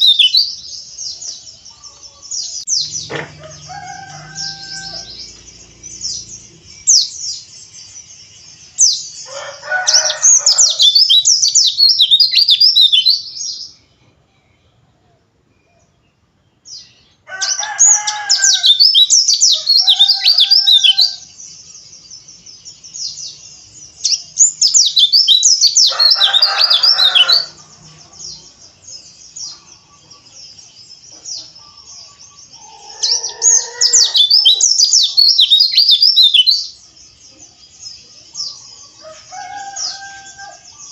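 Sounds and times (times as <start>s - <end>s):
bird chattering song: 0.0s - 14.0s, 15.6s - 40.9s
quiet high bird twittering: 0.0s - 14.8s, 16.6s - 40.9s.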